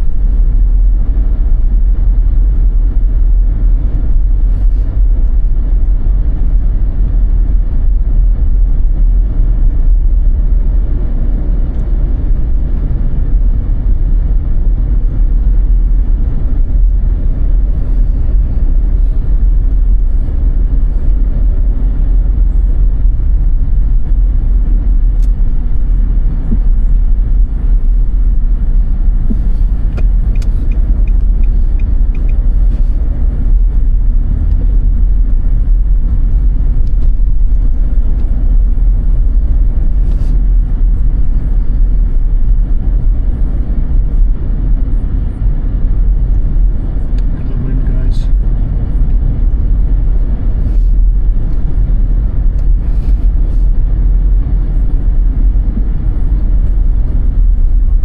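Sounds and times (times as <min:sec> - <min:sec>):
car tyres and engine rumble: 0:00.0 - 0:58.0.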